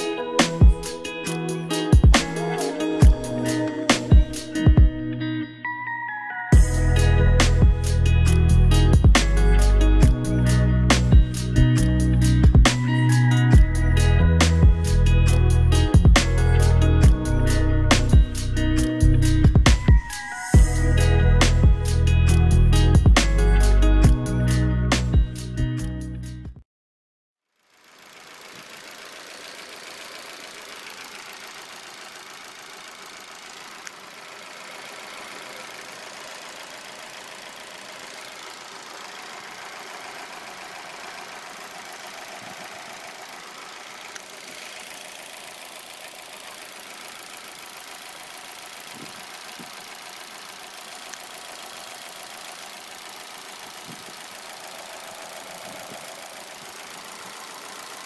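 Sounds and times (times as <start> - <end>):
car engine idling: 6.5 - 26.1, 27.6 - 58.0.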